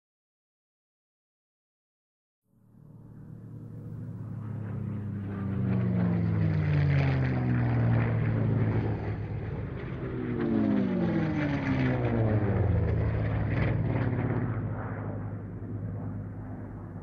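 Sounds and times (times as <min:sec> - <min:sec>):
engine running: 0:02.7 - 0:17.0.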